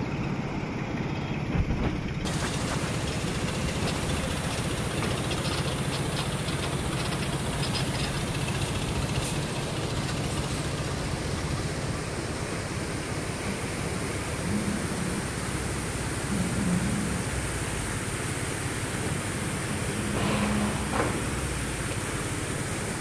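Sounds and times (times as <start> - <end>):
drone motors humming: 0.0 - 23.0
propellers hissing: 0.0 - 23.0.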